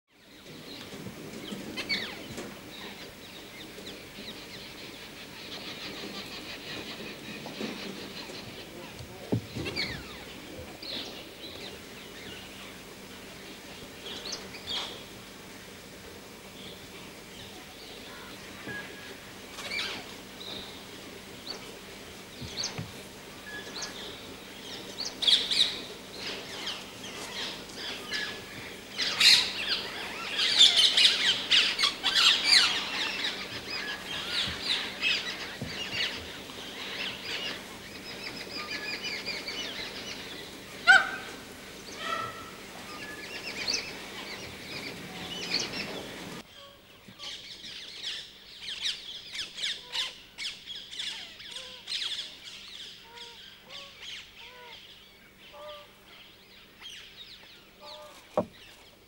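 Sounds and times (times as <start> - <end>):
small birds chirping: 0.2 - 15.2, 16.5 - 59.0
background hiss: 0.2 - 59.0.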